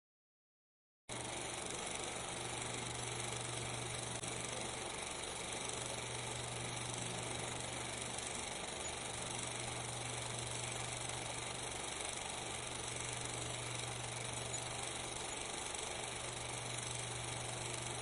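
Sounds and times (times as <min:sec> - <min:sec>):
low hum: 0:01.1 - 0:18.0
steady hiss: 0:01.1 - 0:18.0.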